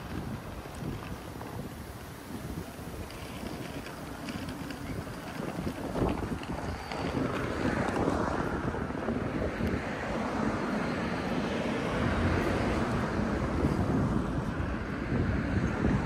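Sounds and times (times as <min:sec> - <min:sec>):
outdoor noise: 0:00.0 - 0:16.0
wind buffeting microphone: 0:00.0 - 0:16.0.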